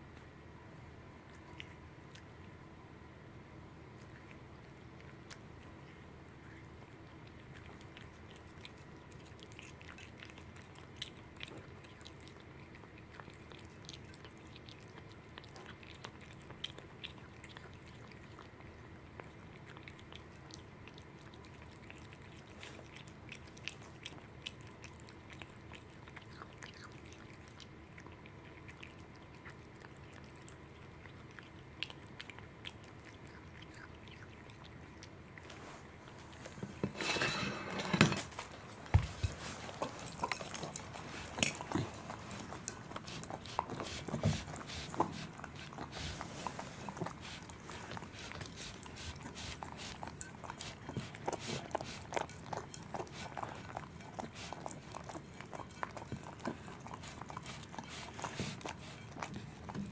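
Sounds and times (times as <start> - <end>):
cat chewing and licking: 1.0 - 59.9.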